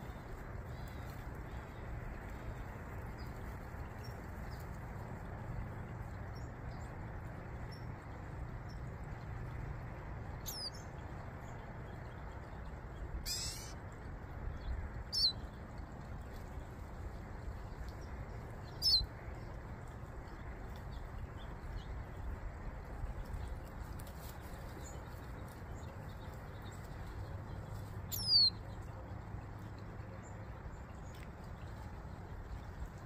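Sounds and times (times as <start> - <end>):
low background hum: 0.0 - 33.0
songbird chirps: 0.0 - 33.0.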